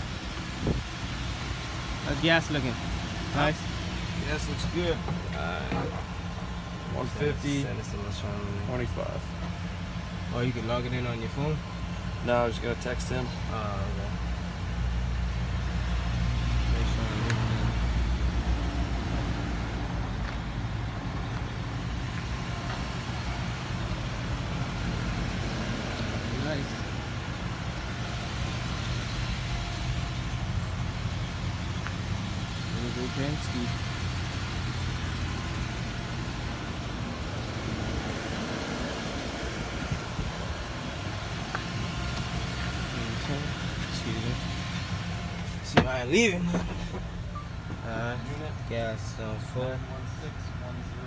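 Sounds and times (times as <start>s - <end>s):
truck engine idling: 0.0s - 51.0s.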